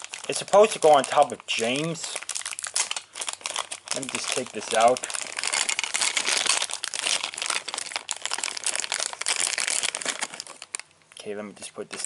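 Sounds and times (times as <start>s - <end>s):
packaging crinkling: 0.0s - 11.2s.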